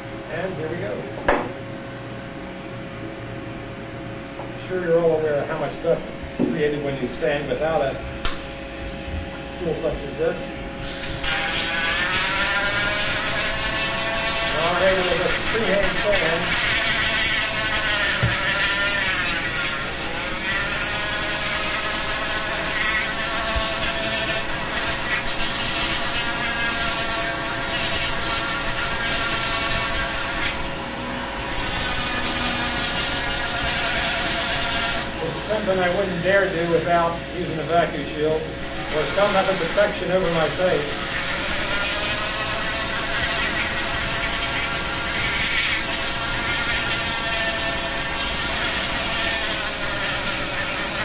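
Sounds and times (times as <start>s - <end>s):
rotary tool sanding wood whine: 9.6s - 51.0s.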